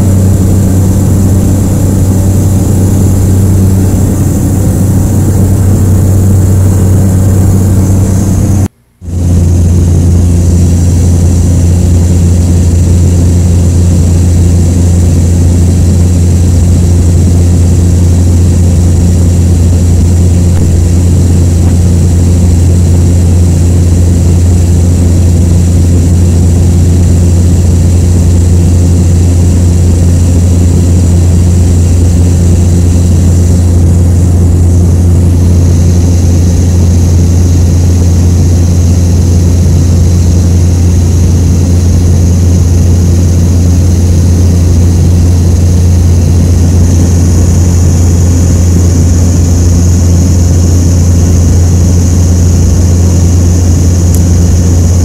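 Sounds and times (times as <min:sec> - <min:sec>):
plane engine and propeller droning: 0:00.0 - 0:55.0.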